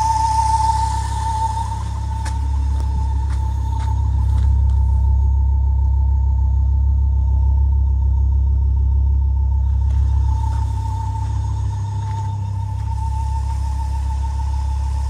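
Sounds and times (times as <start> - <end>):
car engine rumbling: 0.0 - 15.0
steady high engine tone: 0.0 - 15.0.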